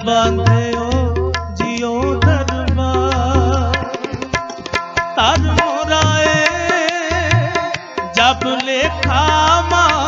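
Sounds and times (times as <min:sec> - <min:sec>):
harmonium notes: 0:00.0 - 0:10.0
tabla strokes: 0:00.0 - 0:10.0.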